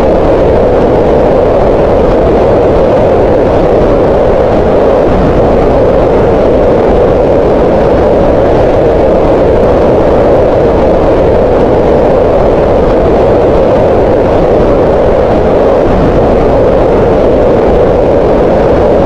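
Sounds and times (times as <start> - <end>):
green noise: 0.0 - 19.0.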